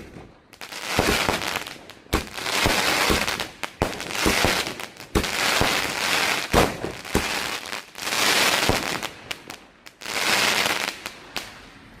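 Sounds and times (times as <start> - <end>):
firework bangs: 0.0 - 11.6
firework crackling: 0.0 - 11.8.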